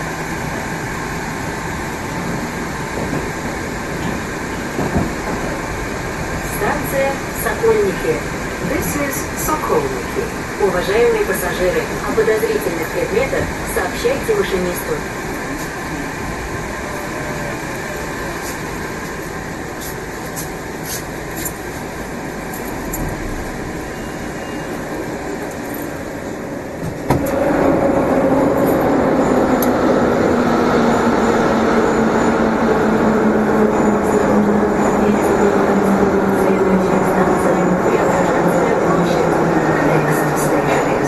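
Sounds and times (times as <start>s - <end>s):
metro train running noise: 0.0s - 41.0s
train steady whine: 0.0s - 41.0s.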